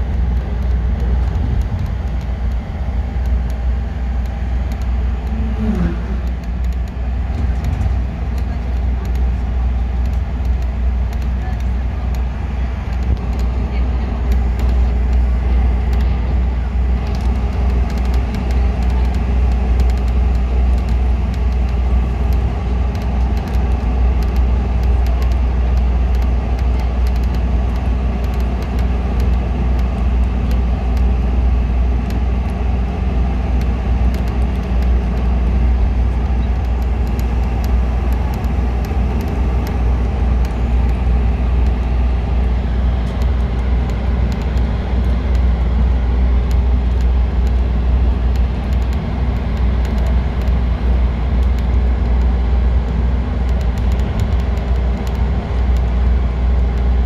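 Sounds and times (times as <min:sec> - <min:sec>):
bus engine and road rumble: 0:00.0 - 0:57.0
light rattling clicks: 0:00.1 - 0:03.6, 0:04.2 - 0:05.4, 0:06.1 - 0:16.3, 0:16.9 - 0:31.2, 0:33.5 - 0:57.0.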